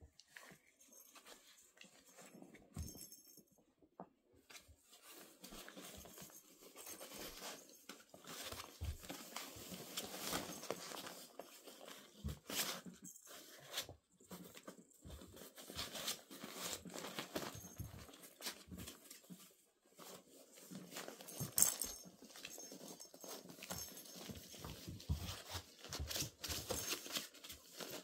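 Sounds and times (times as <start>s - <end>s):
puppies' paws scrabbling on fabric: 4.4s - 28.0s.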